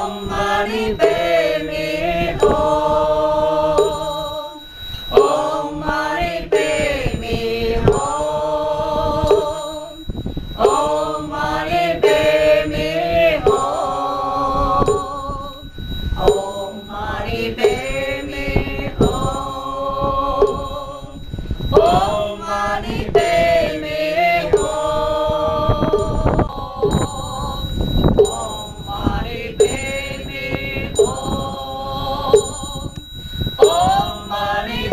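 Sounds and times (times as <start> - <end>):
chant with long held notes: 0.0 - 34.9.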